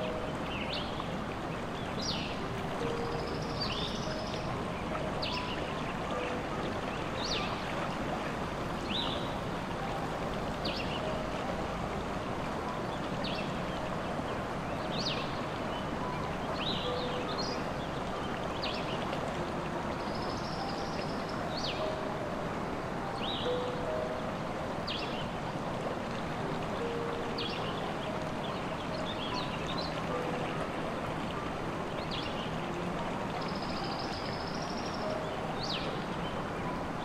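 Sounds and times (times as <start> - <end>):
stream flowing: 0.0 - 37.0.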